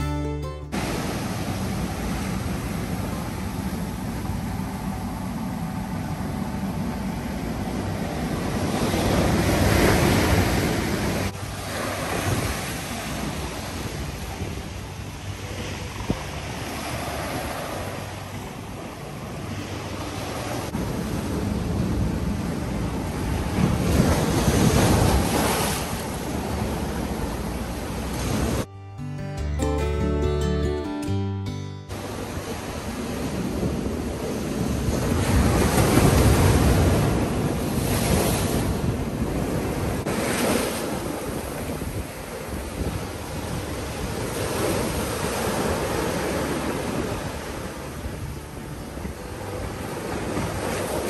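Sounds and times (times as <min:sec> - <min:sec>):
ocean surf breaking on beach: 0:00.8 - 0:28.7, 0:31.9 - 0:51.0.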